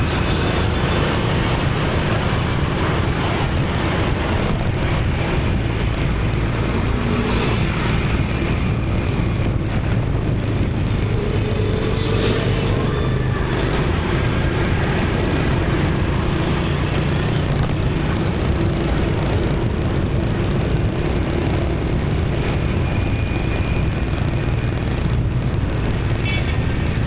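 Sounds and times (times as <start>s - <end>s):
dense motorbike and car traffic: 0.0s - 27.0s.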